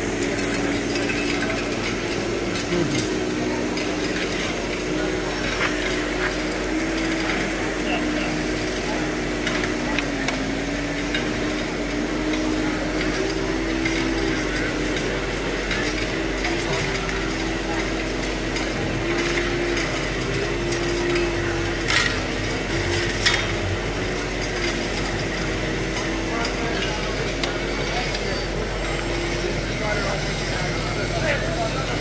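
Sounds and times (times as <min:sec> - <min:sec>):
crowd hubbub in a hall: 0:00.0 - 0:32.0.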